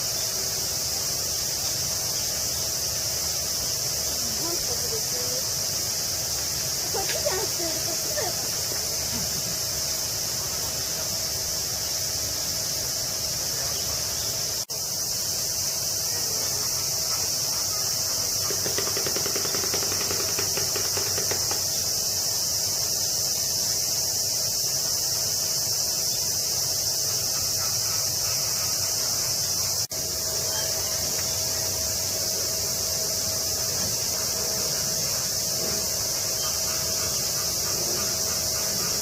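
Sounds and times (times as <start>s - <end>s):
cicadas droning: 0.0s - 39.0s.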